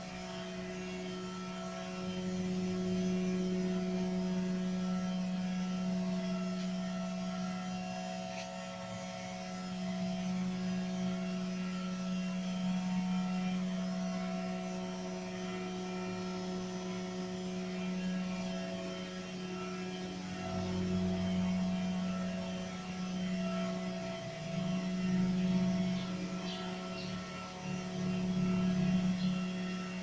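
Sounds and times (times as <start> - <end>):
gas regulating station hum: 0.0 - 30.0.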